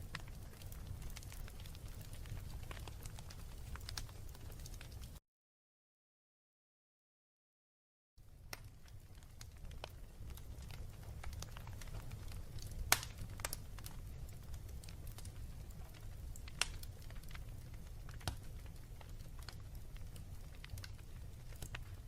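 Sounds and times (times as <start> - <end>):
logs crackling and popping: 0.0 - 5.2, 8.2 - 22.0
low rumble of flames: 0.0 - 5.2, 8.2 - 22.0.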